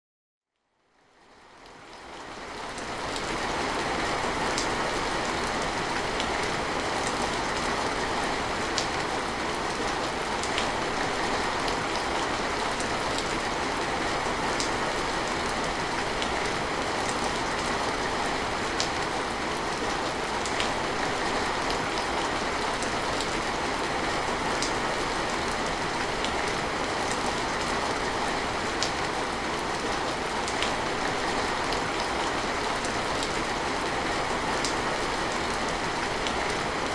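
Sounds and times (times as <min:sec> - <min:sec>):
rain falling: 0:01.4 - 0:36.9.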